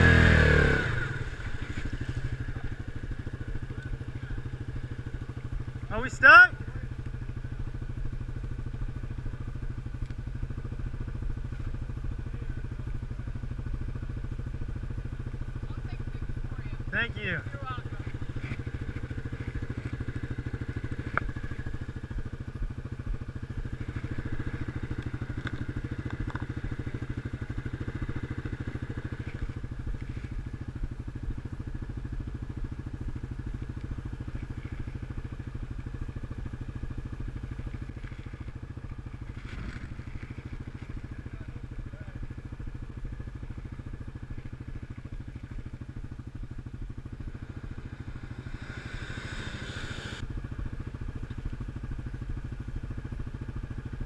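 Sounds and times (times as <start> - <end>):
quad engine idling: 0.0 - 54.0.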